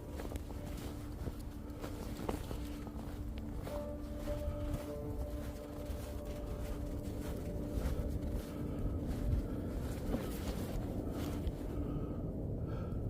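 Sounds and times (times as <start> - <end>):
faint held musical tones: 0.0 - 13.0
wind buffeting microphone: 0.0 - 13.0.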